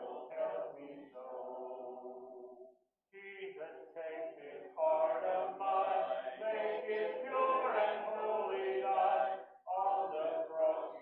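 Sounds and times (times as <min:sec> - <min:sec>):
congregation singing a hymn: 0:00.0 - 0:11.0.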